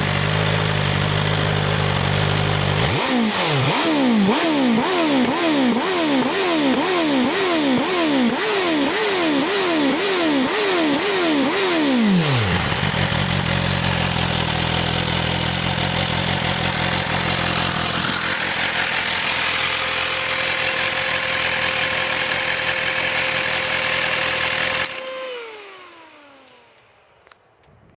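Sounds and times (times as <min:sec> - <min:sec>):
motorcycle engine revving and idling: 0:00.0 - 0:27.4
engine whine: 0:00.0 - 0:27.9.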